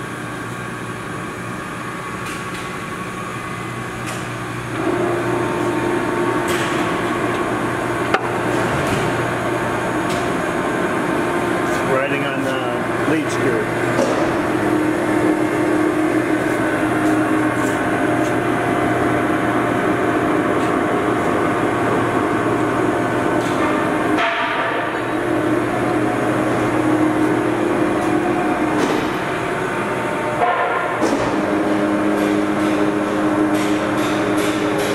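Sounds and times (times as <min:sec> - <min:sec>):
lathe humming and gear whine: 0:00.0 - 0:34.9.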